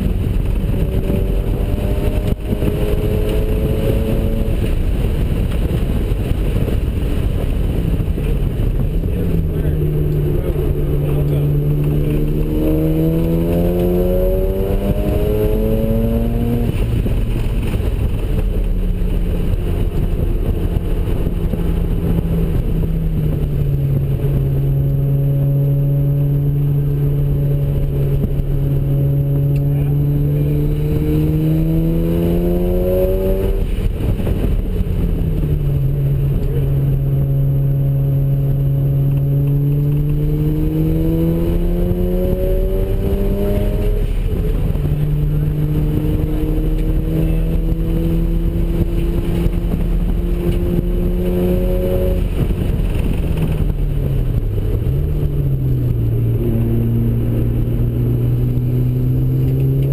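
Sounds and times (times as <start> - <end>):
rotary engine revving: 0.0 - 59.9.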